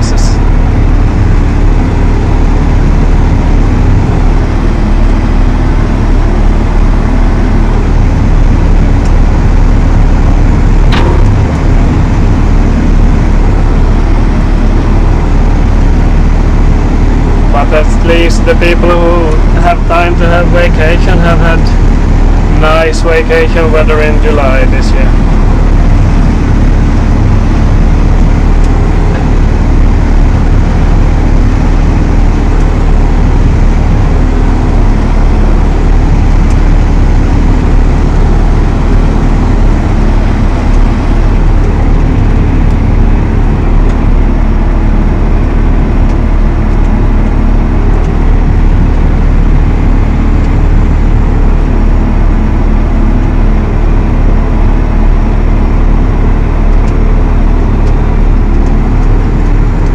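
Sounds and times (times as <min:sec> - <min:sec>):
tractor diesel engine droning: 0:00.0 - 0:59.9.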